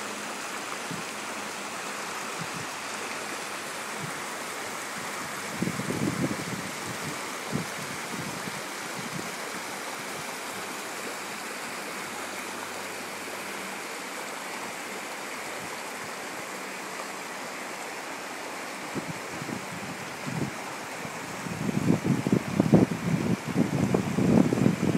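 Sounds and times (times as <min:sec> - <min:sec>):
creek water babbling over rocks: 0:00.0 - 0:24.9.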